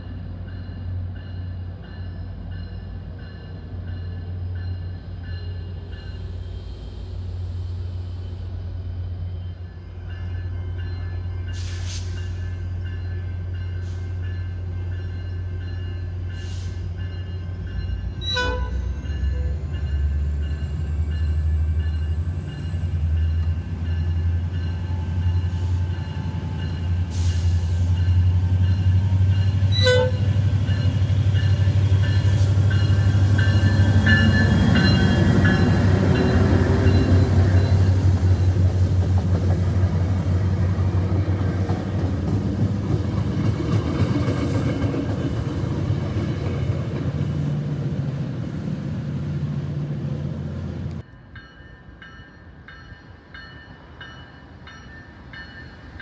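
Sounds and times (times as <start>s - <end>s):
diesel train engine drone: 0.0s - 56.0s
train coaches rolling past: 0.0s - 56.0s.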